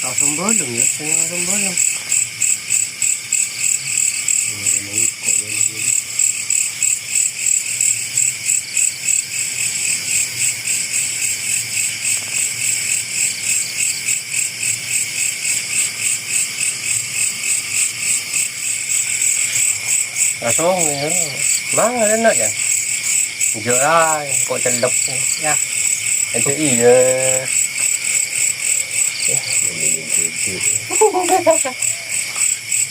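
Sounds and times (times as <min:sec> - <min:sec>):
night insects chirping: 0:00.0 - 0:32.9.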